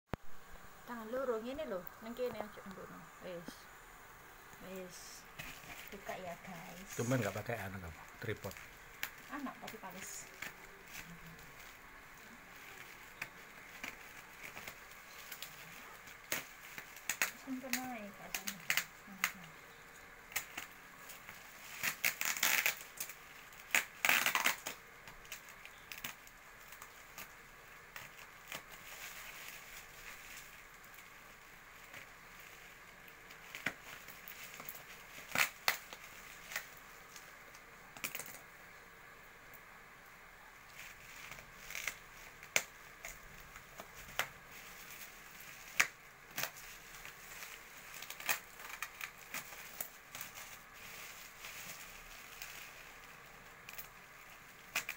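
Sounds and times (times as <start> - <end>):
bubble wrap crinkling: 0.2 - 54.9.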